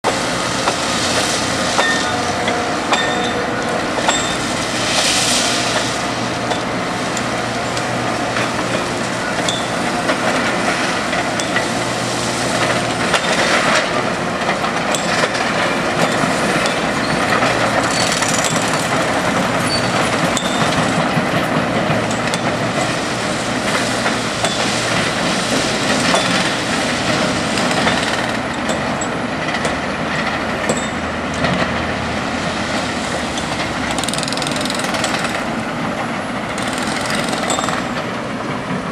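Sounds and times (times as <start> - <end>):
diesel engines running: 0.0 - 38.9
freight train wheels clattering: 0.1 - 38.9.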